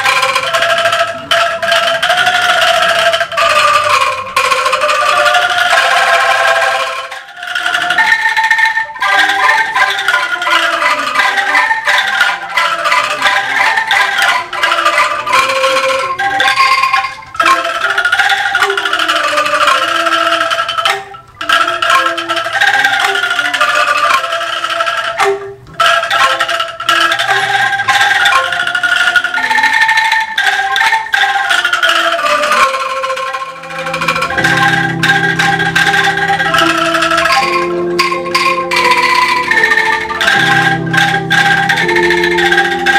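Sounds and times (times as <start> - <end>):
bamboo angklung ensemble playing: 0.0 - 42.9.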